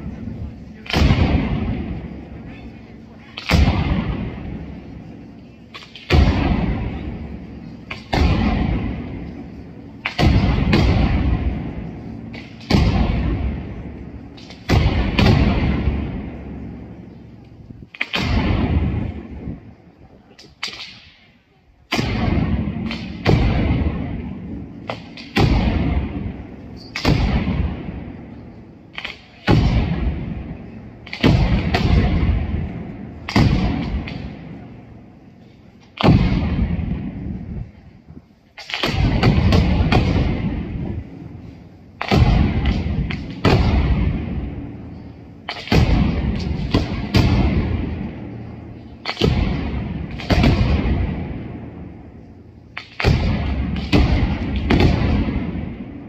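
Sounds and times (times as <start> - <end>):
black-powder charges exploding: 0.0 - 19.7, 21.9 - 35.1, 36.0 - 37.8, 38.8 - 56.0
firecracker string cracking: 0.0 - 56.0.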